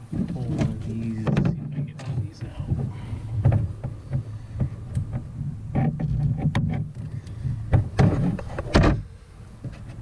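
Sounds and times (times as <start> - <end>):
low handling rustle: 0.0 - 10.0
plastic clicks and knocks: 0.1 - 9.0.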